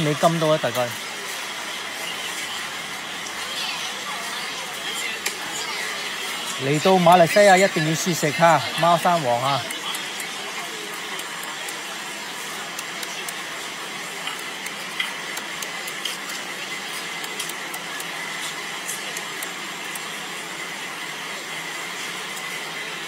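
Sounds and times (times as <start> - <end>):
market background din: 0.0 - 23.0.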